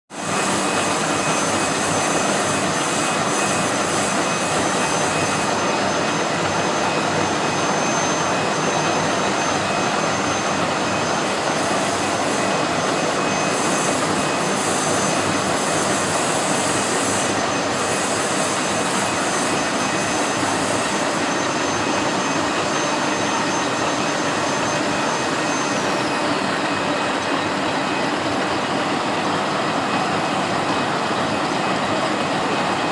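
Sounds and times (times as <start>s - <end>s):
high thin whine: 0.2s - 32.9s
milling machine cutting: 0.2s - 32.9s.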